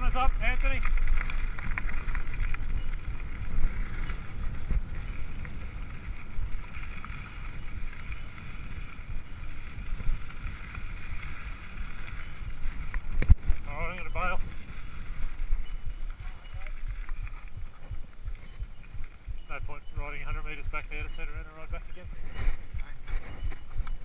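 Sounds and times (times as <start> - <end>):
bike tyres rattling over dirt: 0.0 - 24.0
wind rushing over microphone: 0.0 - 24.0.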